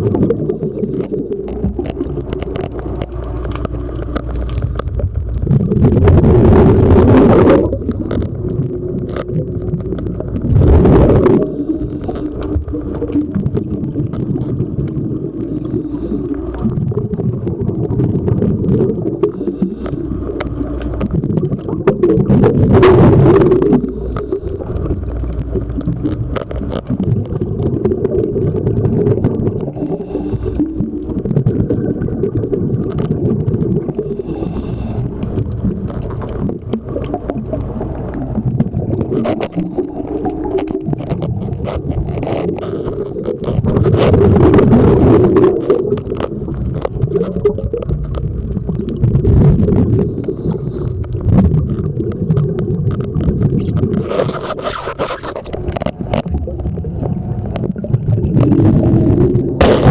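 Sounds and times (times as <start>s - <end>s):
regulator exhaust bubbles: 0.0s - 54.7s, 55.5s - 59.9s
low rumble of water: 0.0s - 59.9s.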